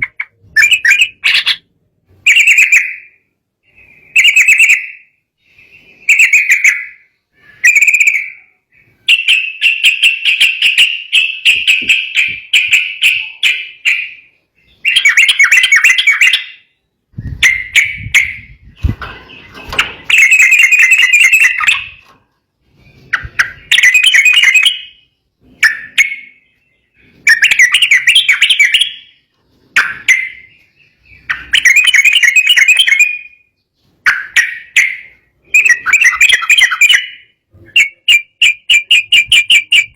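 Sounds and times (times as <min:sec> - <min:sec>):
bulbul chattering song: 0:00.0 - 0:22.1, 0:22.7 - 0:39.9.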